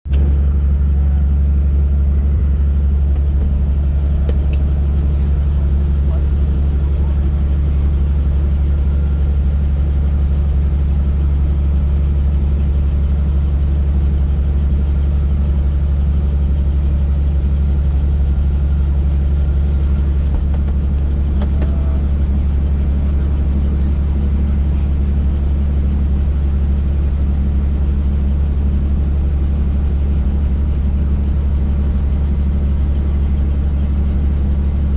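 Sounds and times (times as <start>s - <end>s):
helicopter engine and rotors: 0.1s - 34.9s.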